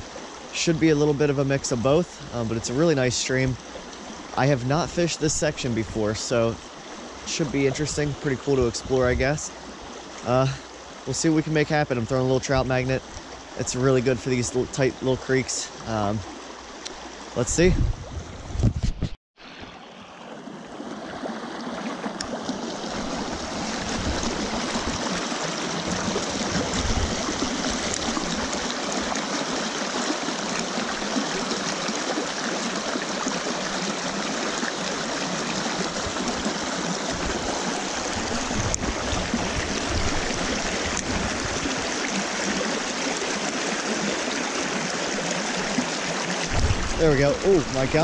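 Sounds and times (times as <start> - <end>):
creek splashing over rocks: 0.0 - 17.4, 19.4 - 48.0.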